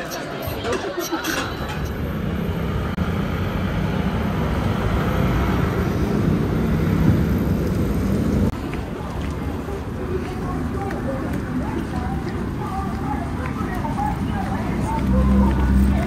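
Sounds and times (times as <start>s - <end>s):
rumble of passing traffic: 1.3s - 16.0s.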